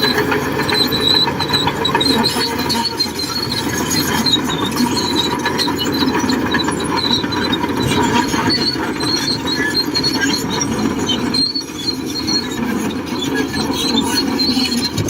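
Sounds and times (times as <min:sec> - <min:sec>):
bulldozer diesel engine running: 0:00.0 - 0:15.0
steel tracks squealing: 0:00.0 - 0:15.0.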